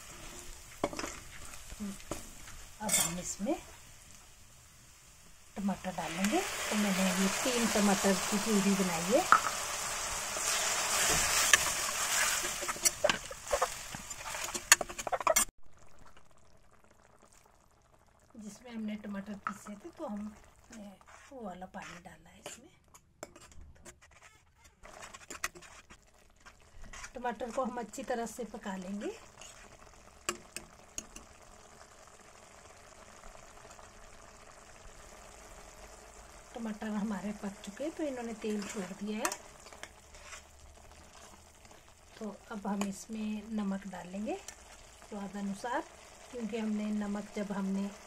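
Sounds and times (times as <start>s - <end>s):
sauce simmering in a pan: 0.0s - 24.1s, 24.8s - 48.0s.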